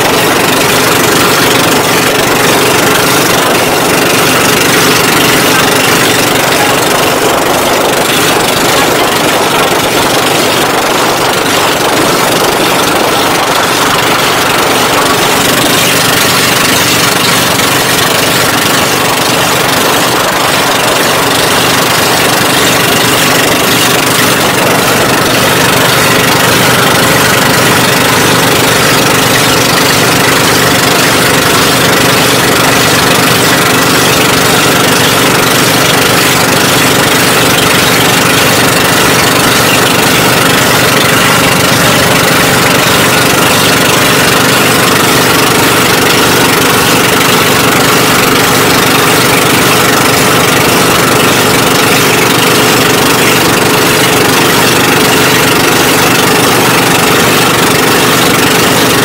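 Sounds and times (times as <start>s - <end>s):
boat engine running: 0.0s - 59.0s
continuous rushing noise: 0.0s - 59.0s.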